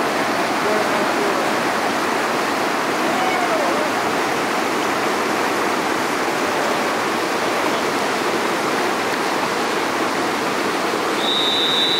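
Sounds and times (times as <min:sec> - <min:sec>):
whitewater rapid rushing: 0:00.0 - 0:11.9.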